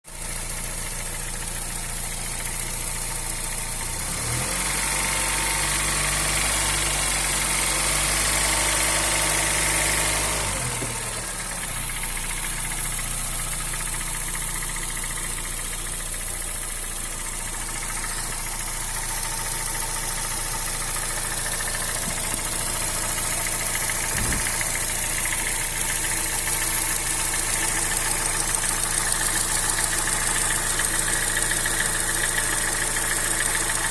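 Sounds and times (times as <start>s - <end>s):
car engine idling with tapping: 0.1s - 33.9s
engine knock: 0.1s - 33.9s.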